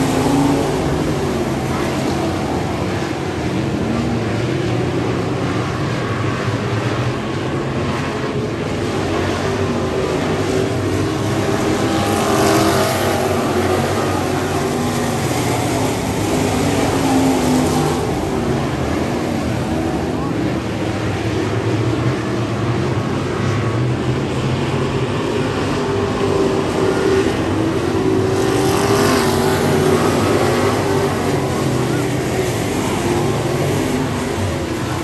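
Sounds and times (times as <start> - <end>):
race car engines at speed: 0.0 - 35.0.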